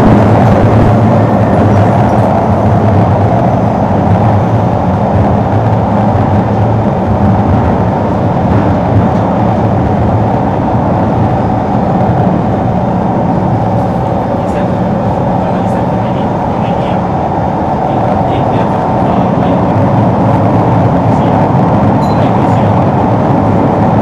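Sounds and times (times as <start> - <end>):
underground train rumbling: 0.0 - 24.0.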